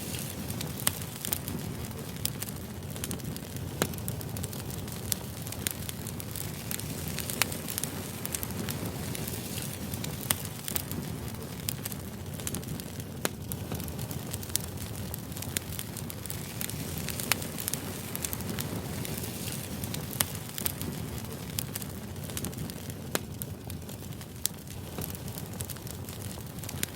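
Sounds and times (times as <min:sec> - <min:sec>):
firewood fire crackling: 0:00.0 - 0:26.9.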